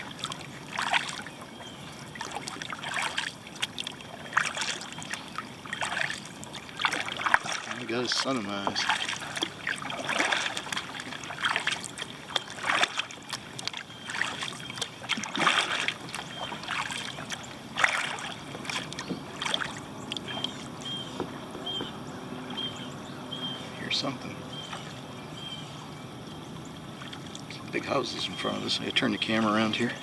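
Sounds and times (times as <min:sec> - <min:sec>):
paddle strokes splashing in water: 0:00.0 - 0:26.0, 0:26.6 - 0:30.0.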